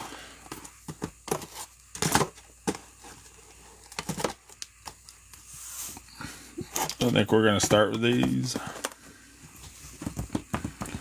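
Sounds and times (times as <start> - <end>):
card packs rustling and clicking: 0.0 - 11.0.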